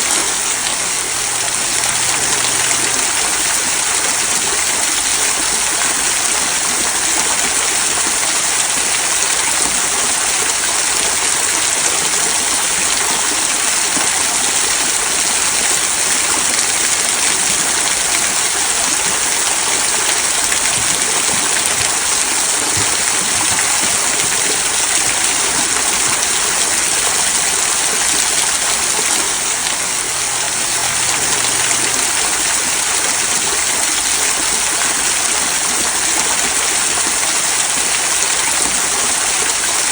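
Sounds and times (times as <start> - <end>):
waterfall trickling over stones: 0.0 - 39.9.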